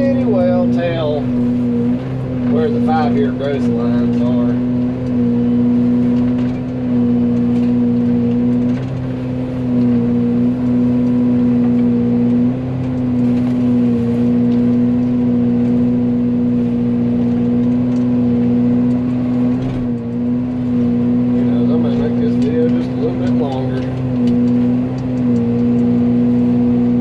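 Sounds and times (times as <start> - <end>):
forestry mulcher engine at high revs: 0.0 - 27.0.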